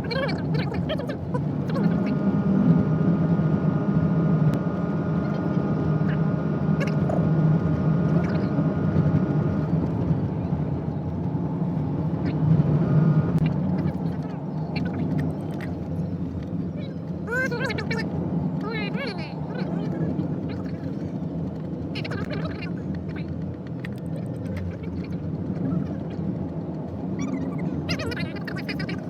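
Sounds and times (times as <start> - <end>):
car engine and tyre hum: 0.0 - 29.0.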